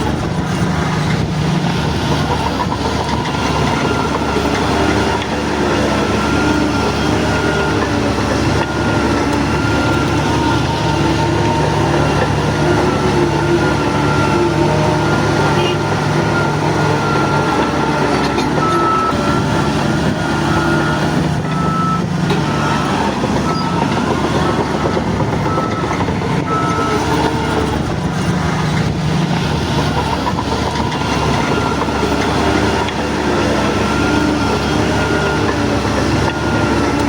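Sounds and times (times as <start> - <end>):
bulldozer diesel engine under load: 0.0 - 37.0
tracks rattling: 0.0 - 37.0
reversing alarm beeping: 1.2 - 37.0.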